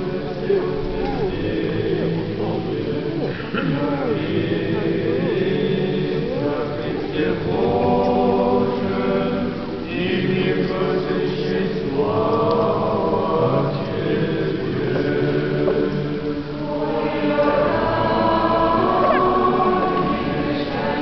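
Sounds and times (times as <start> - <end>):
choir singing chant: 0.0 - 21.0.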